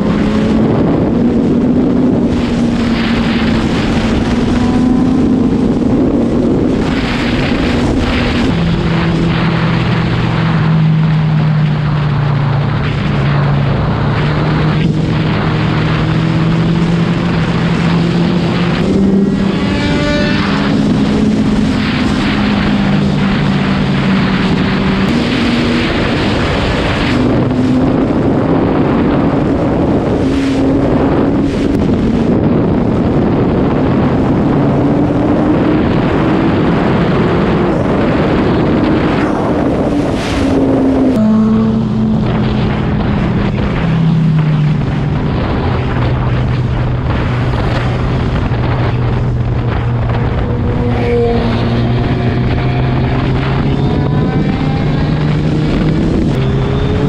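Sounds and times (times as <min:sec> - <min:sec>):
motorcycle engine accelerating: 0:00.0 - 0:57.0
wind rushing over microphone: 0:00.0 - 0:57.0.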